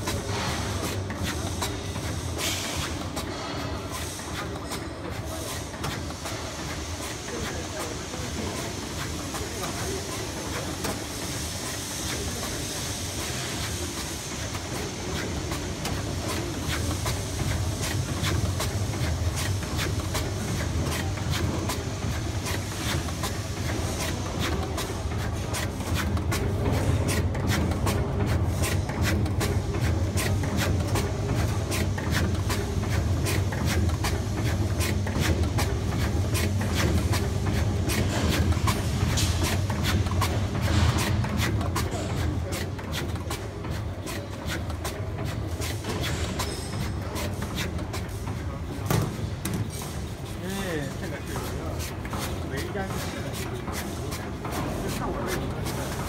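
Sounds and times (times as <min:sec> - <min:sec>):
rapid mechanical clacking: 0:00.0 - 0:56.0.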